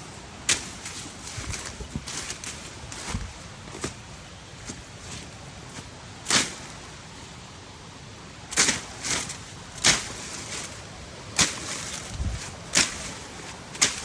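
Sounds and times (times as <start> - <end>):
blade slashing through bushes: 0.4 - 6.8, 8.5 - 14.0.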